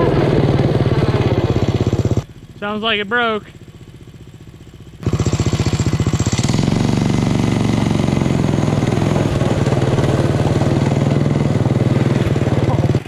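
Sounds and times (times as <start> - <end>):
go-kart engine revving: 0.0 - 13.0.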